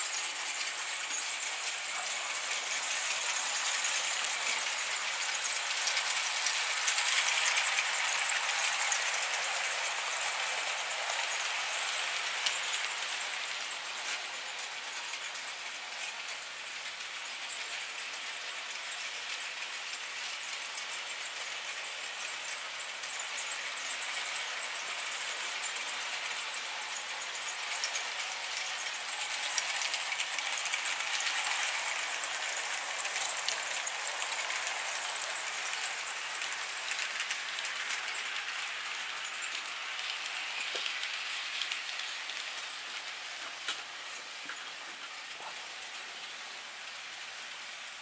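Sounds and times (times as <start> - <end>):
model train wheels clicking on rails: 0.0 - 48.0.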